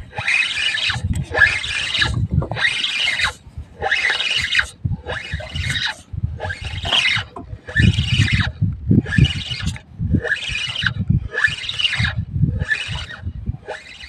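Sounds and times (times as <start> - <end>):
fishing reel whirring squeak: 0.0 - 14.0.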